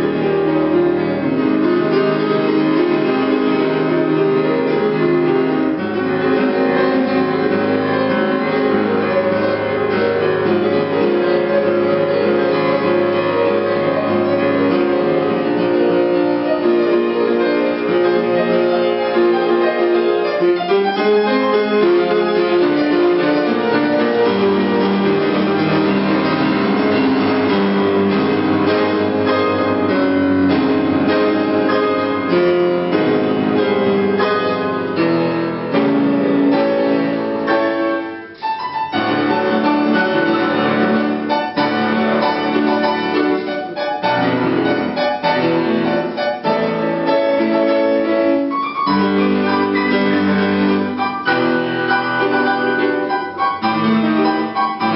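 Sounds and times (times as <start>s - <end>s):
grand piano playing: 0.0s - 54.9s.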